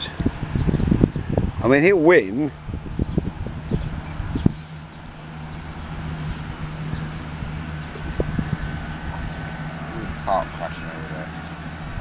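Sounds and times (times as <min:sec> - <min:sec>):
low hum: 0:00.0 - 0:12.0
wind rumbling on microphone: 0:00.0 - 0:12.0.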